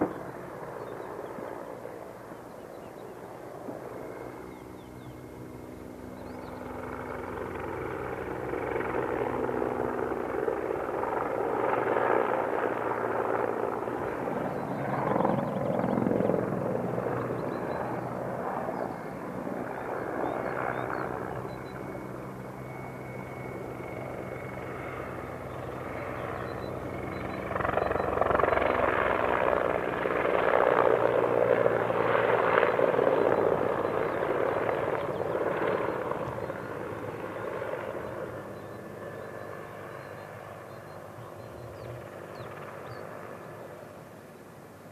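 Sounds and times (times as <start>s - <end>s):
helicopter flying past: 0.0s - 44.9s.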